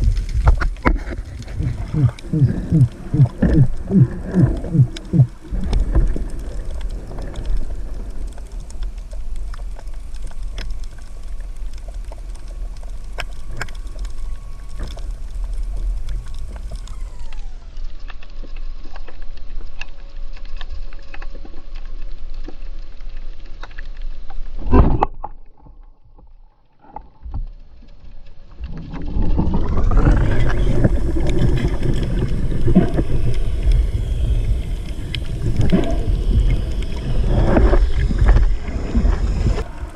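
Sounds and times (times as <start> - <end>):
faint steady hum: 0.0 - 24.4, 27.3 - 39.9
muffled underwater water noise: 0.0 - 39.9.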